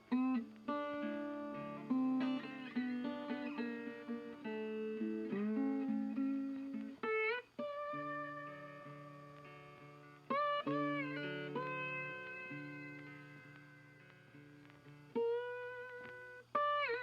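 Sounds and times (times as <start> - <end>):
guitar plucking notes and chords: 0.0 - 17.0.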